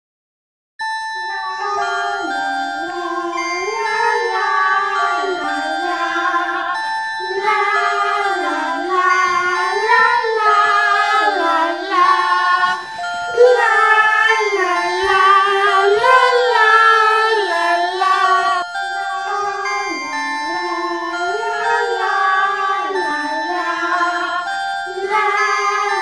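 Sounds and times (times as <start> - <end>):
tinkling keyboard notes: 0.8 - 26.0
wordless voice singing: 1.2 - 26.0.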